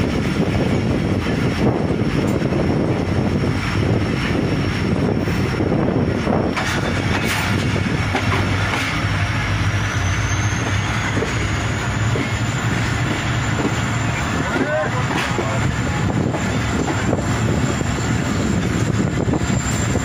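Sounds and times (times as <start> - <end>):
train clatter: 0.0 - 20.0
train wheels rumbling on rails: 0.0 - 20.0.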